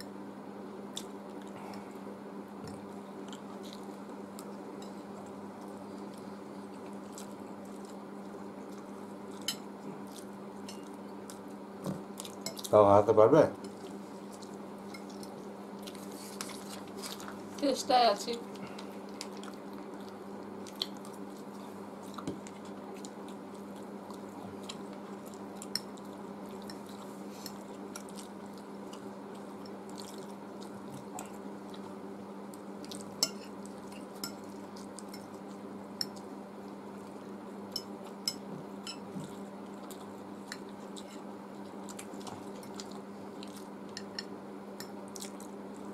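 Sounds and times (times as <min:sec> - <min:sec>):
steady low hum: 0:00.0 - 0:45.9
soft chewing: 0:00.9 - 0:02.0, 0:02.6 - 0:12.8, 0:13.6 - 0:17.7, 0:18.3 - 0:45.9.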